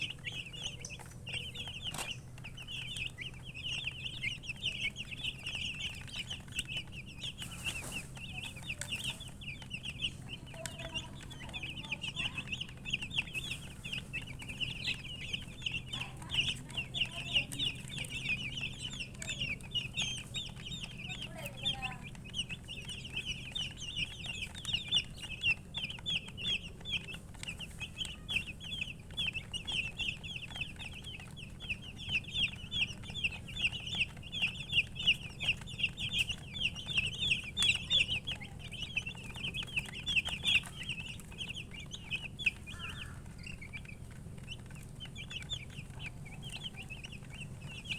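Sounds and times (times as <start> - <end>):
baby chicks peeping: 0.0 - 47.9
steady low hum: 0.0 - 47.9.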